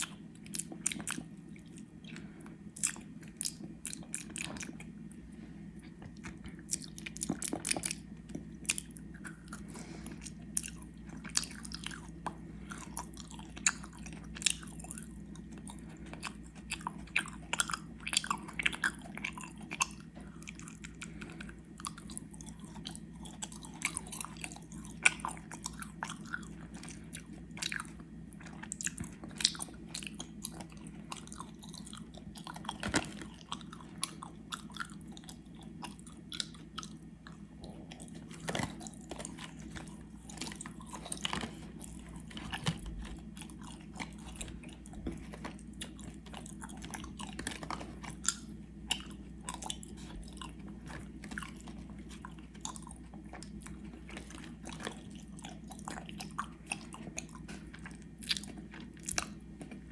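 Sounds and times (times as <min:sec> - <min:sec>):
chewing with wet mouth clicks: 0:00.0 - 0:59.9.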